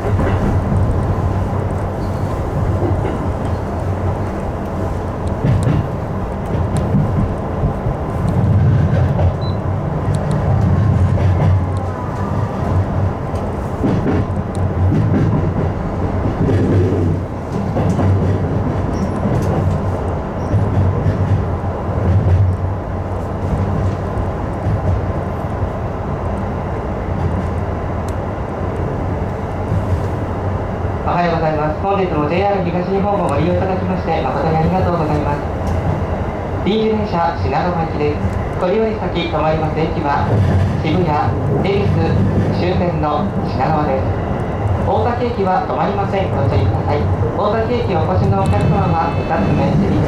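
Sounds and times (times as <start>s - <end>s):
train wheels rumbling: 0.0s - 50.0s.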